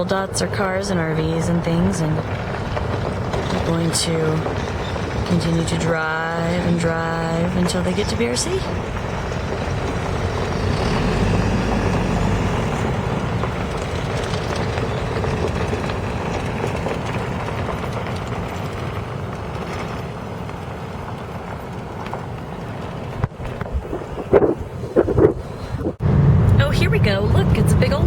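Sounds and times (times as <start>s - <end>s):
vehicle engine and tyre rumble: 0.0s - 28.0s.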